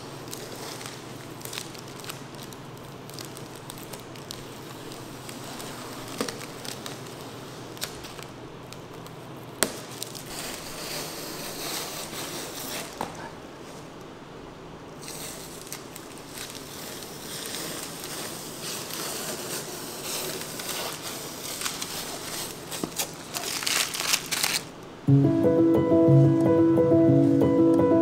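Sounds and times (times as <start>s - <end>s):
masking tape peeling and crinkling: 0.0s - 14.1s, 15.0s - 25.0s.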